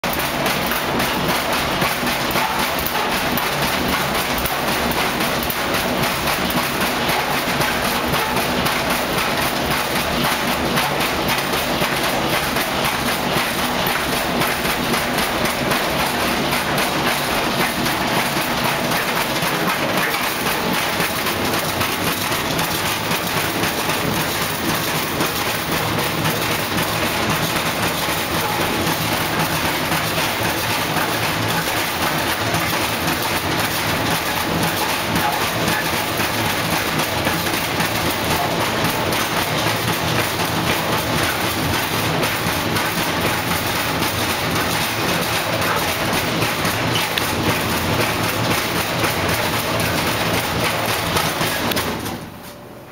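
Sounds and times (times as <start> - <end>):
washing machine banging and rattling: 0.0 - 52.4.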